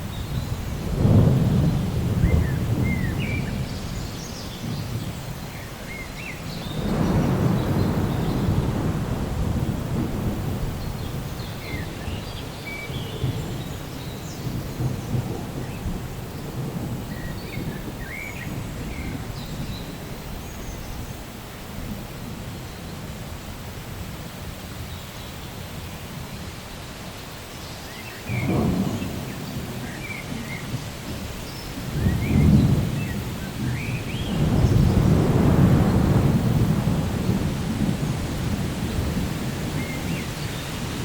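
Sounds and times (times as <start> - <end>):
rolling thunder: 0.0 - 23.2, 28.2 - 41.0
steady rain: 0.0 - 41.0.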